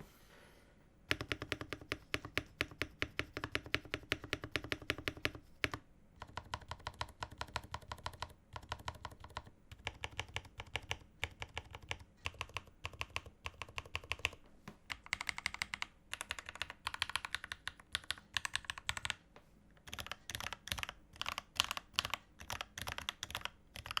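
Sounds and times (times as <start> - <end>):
mechanical keyboard typing: 1.1 - 19.2, 19.8 - 24.0.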